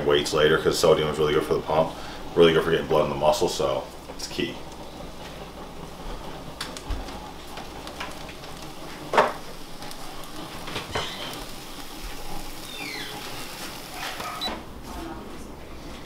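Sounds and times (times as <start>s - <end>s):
egg whites sizzling in a frying pan: 0.4s - 14.5s.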